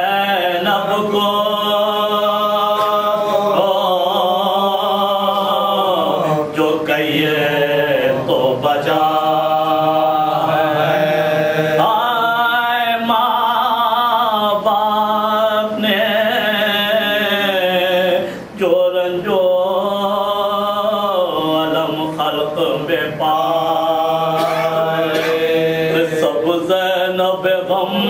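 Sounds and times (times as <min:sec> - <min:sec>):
man chanting: 0:00.0 - 0:28.0.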